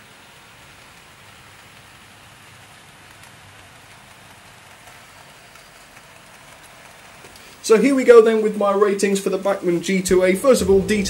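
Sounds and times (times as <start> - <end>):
model train rattling on track: 0.0 - 11.0.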